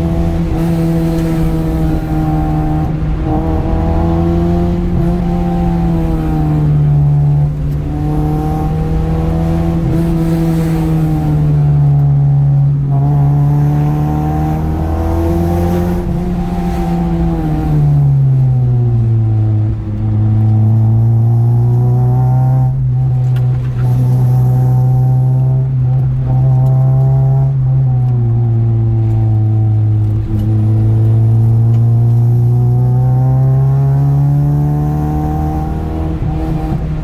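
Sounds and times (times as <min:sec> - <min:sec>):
car engine from inside cabin: 0:00.0 - 0:37.0
road rumble: 0:00.0 - 0:37.0.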